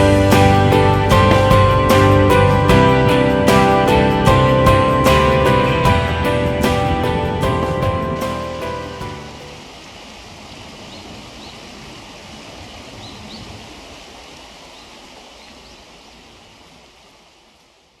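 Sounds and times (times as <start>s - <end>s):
rushing outdoor ambient noise: 0.0s - 18.0s.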